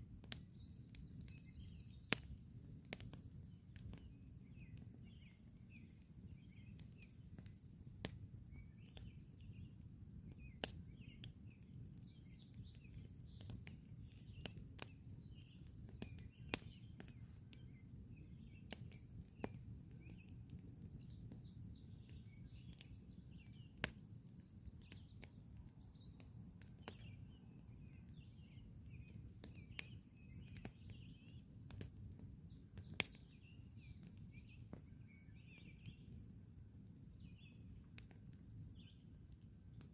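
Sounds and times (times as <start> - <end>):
campfire crackling and popping: 0.0 - 39.9
small birds chirping: 0.1 - 39.9.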